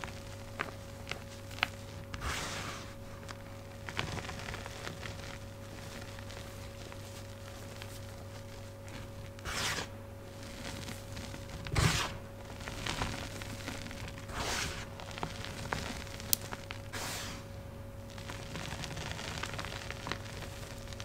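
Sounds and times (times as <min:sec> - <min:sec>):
hands crunching chalk: 0:00.0 - 0:17.5
fridge hum: 0:00.0 - 0:21.0.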